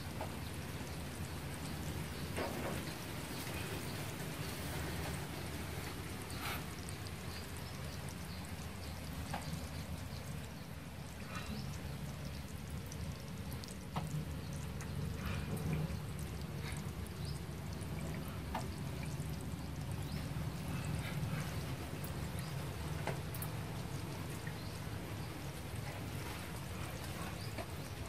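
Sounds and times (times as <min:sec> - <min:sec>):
snails feeding clicks and crackles: 0:00.0 - 0:28.0
steady low hum: 0:00.0 - 0:28.0.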